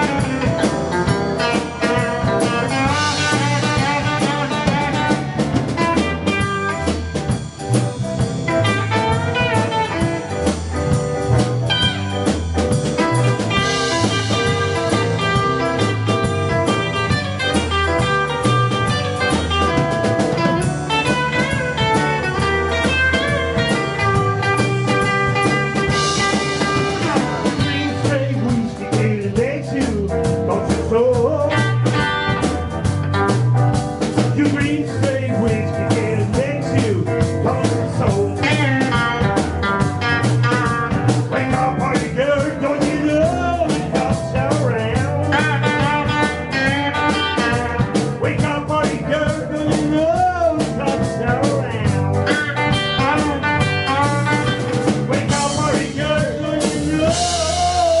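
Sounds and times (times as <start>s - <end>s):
electric blues band playing: 0.0s - 58.0s.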